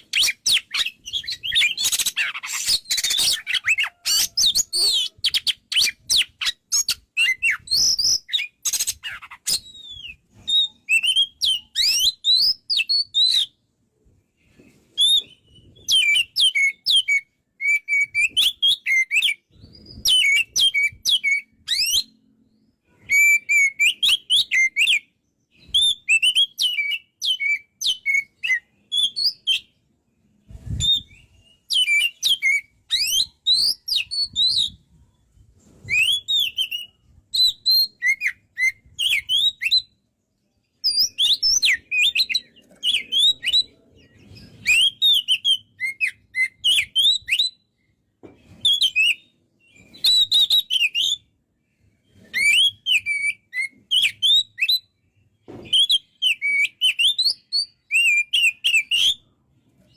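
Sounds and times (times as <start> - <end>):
songbird whistling and chirping: 0.0 - 13.6, 14.4 - 40.1, 40.7 - 59.9.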